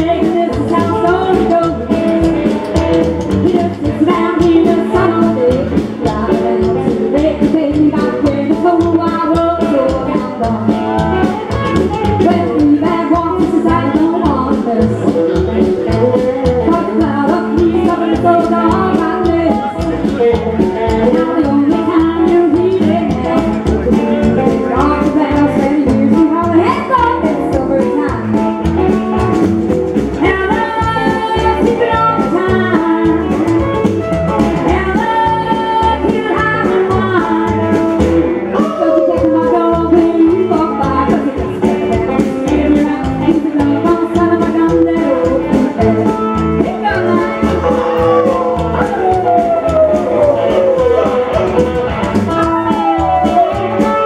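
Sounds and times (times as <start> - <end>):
woman singing: 0.0 - 29.0, 30.1 - 33.8, 34.4 - 51.3
live band with guitar bass drums: 0.0 - 54.0.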